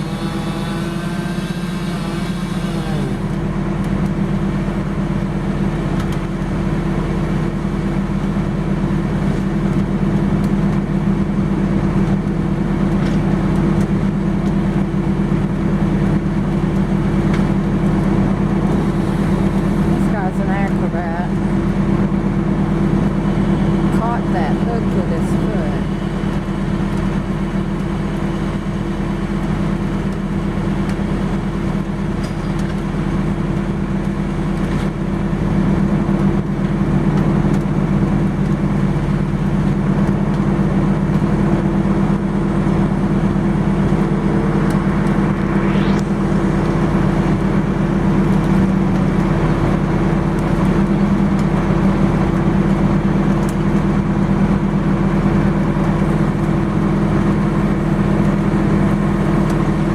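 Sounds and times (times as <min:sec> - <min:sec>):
large engine humming: 0:00.0 - 0:59.9.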